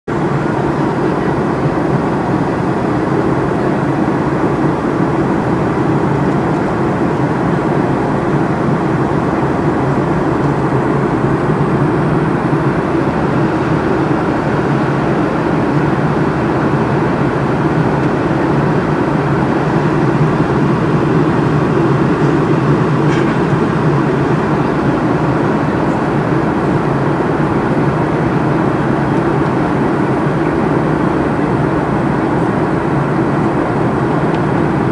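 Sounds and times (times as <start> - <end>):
jet engine and airflow drone: 0.1 - 34.9.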